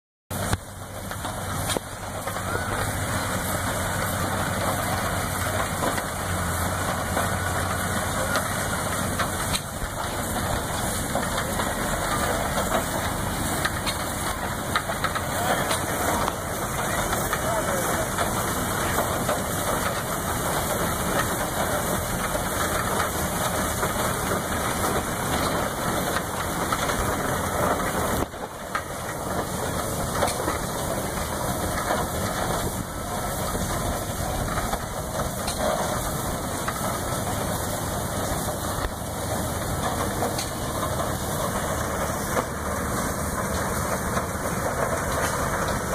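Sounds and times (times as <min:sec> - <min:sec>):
steam traction engine running: 0:00.3 - 0:45.9.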